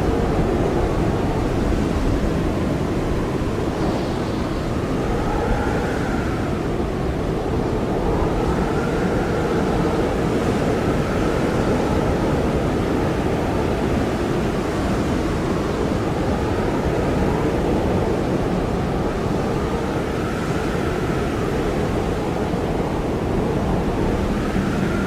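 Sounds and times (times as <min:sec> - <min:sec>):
blizzard wind howling: 0:00.0 - 0:25.0.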